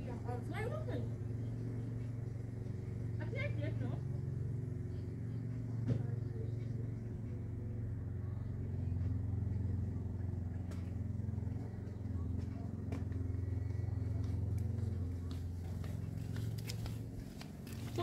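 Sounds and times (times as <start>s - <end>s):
lawn mower humming: 0.0s - 18.0s.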